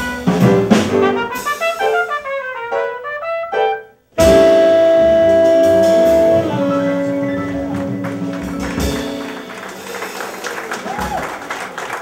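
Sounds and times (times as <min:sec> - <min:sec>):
jazz band final chord: 0:00.0 - 0:10.5.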